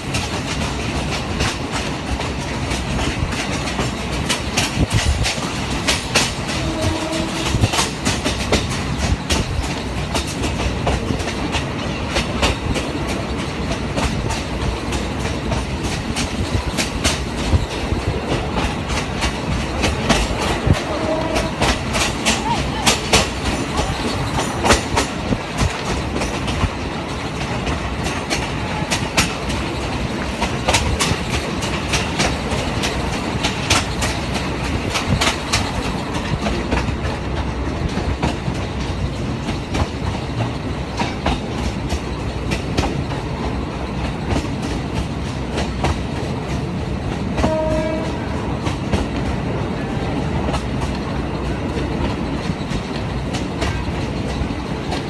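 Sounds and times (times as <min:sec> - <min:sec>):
train rumbling: 0:00.0 - 0:55.0
wheels clacking over rail joints: 0:00.0 - 0:55.0.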